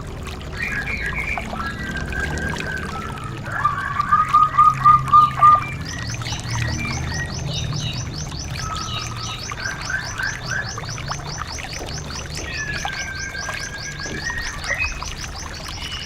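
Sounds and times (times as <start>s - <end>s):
loud whistled bird notes: 0.5s - 16.0s.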